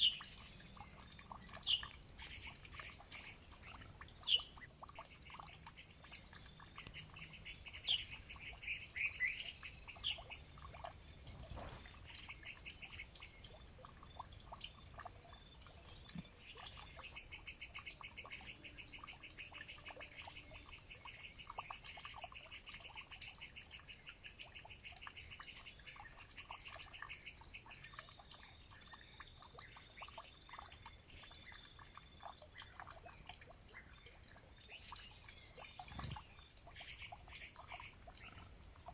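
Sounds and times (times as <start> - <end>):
wild birds singing and calling: 0.0 - 38.9.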